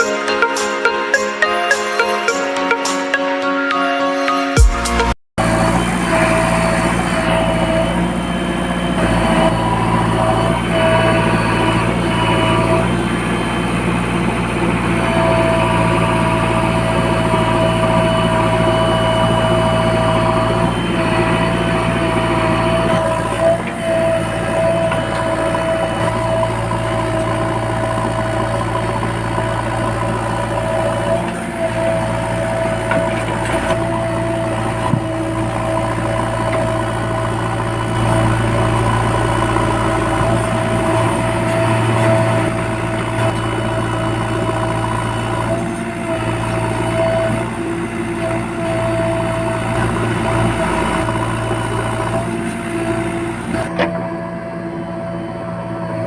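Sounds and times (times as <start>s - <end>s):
heavy diesel engines running: 4.7s - 56.0s.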